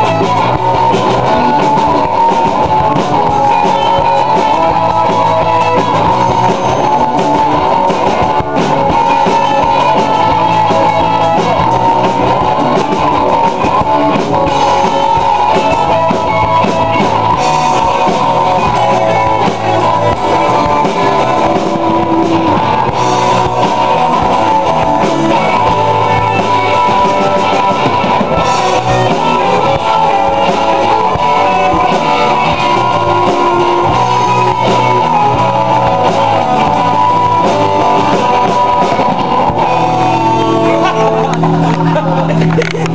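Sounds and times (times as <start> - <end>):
loud rock music: 0.0 - 42.9.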